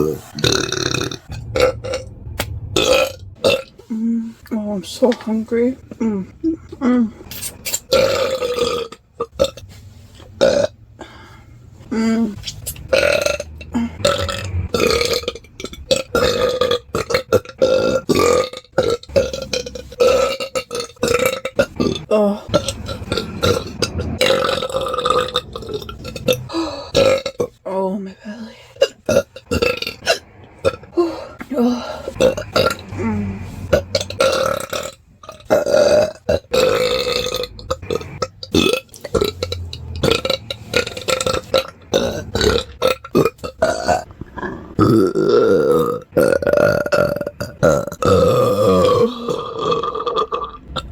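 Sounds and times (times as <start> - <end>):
person burping loudly: 0.0 - 2.1, 2.8 - 4.1, 7.8 - 9.6, 10.4 - 10.8, 11.9 - 27.6, 28.8 - 50.9.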